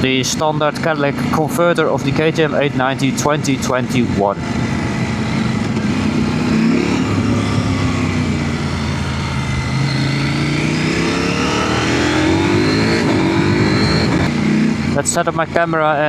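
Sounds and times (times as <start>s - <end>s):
motorcycle engine while riding: 0.0s - 16.0s.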